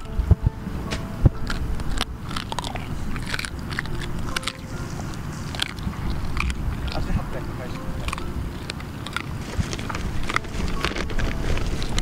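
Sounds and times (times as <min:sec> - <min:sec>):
dogs gnawing on bones: 0:01.2 - 0:12.0.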